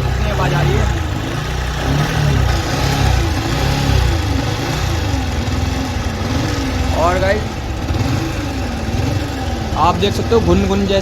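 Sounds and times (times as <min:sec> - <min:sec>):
motorcycle engine idling with droning: 0:00.0 - 0:11.0.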